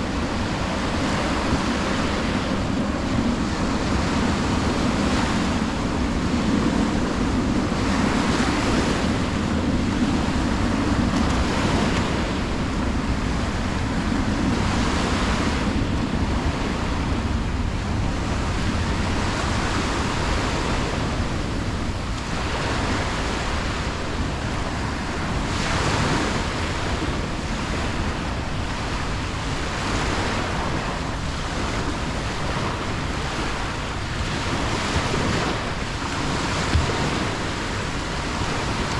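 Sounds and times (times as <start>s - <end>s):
sea waves breaking on shore: 0.0s - 38.9s
wind rumbling on microphone: 0.0s - 38.9s.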